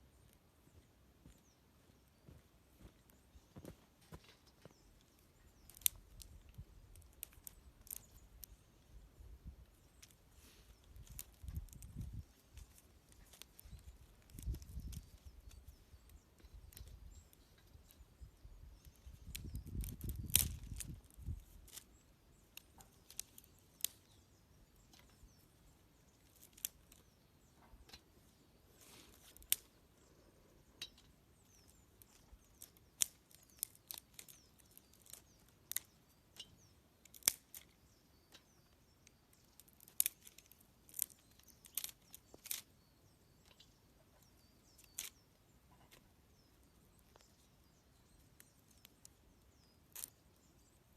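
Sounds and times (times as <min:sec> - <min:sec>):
small birds chirping: 0:00.0 - 0:50.9
campfire wood crackling: 0:04.0 - 0:43.6, 0:44.2 - 0:45.6, 0:46.3 - 0:50.8.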